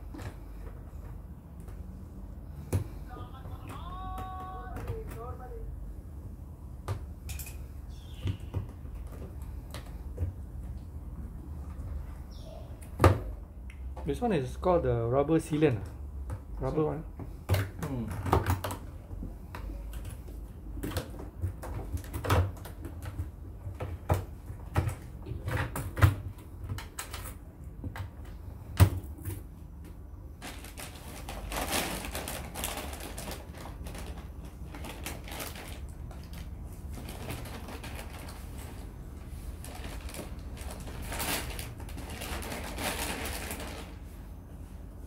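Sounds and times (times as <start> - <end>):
rustling and handling noise: 0.0 - 14.3, 15.4 - 45.0.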